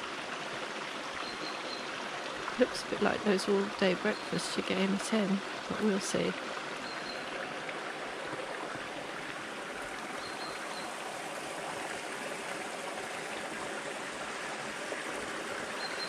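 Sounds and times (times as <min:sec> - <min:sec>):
stream running over stones: 0:00.0 - 0:16.0.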